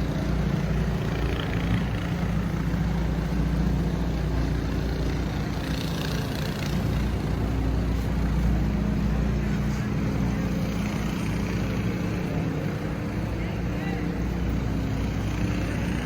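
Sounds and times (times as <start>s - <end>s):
city street noise: 0.0s - 16.0s.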